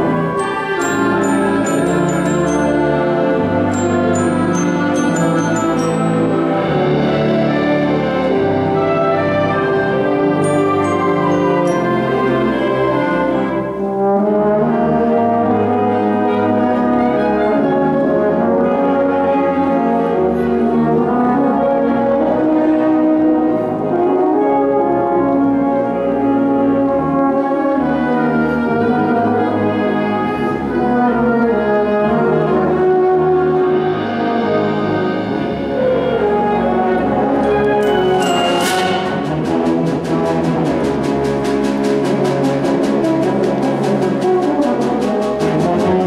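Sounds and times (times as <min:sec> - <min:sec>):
wind band accompaniment: 0:00.0 - 0:46.0.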